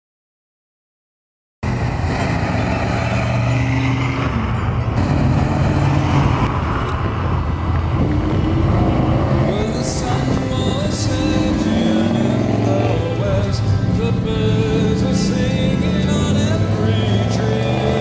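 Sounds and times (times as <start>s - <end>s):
car engine rumbling: 1.6s - 18.0s.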